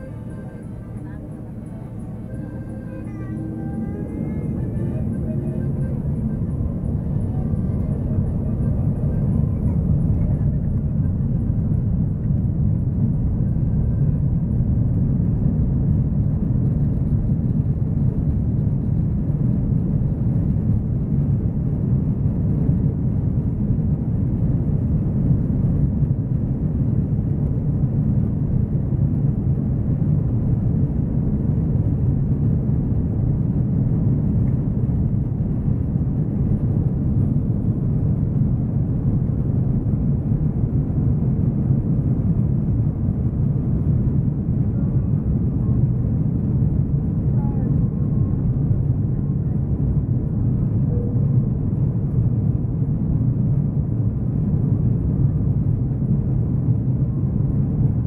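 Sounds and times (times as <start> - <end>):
airliner engines rumbling: 0.0 - 58.0.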